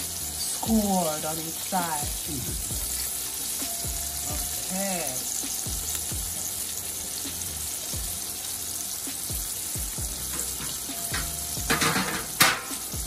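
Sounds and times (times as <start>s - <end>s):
fish frying in sizzling oil: 0.0s - 13.0s.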